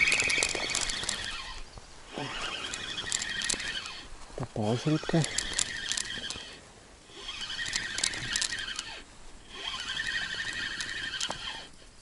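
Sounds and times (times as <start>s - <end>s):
fishing reel whirring: 0.0s - 4.1s, 4.8s - 11.8s.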